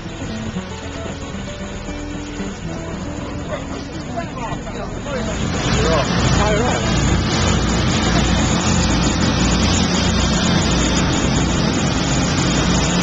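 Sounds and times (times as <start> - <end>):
boat engine running: 0.0 - 13.0
constant rushing noise: 0.0 - 13.0.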